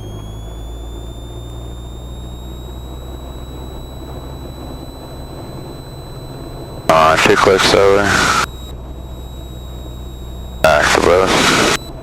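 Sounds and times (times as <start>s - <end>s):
aircraft engine drone: 0.0s - 12.0s
thin high whine: 0.0s - 12.0s.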